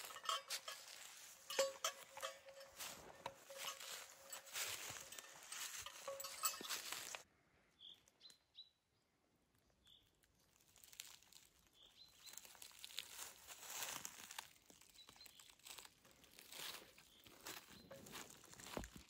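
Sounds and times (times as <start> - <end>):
soft rustling and crunching: 0.0 - 7.2, 9.9 - 19.0.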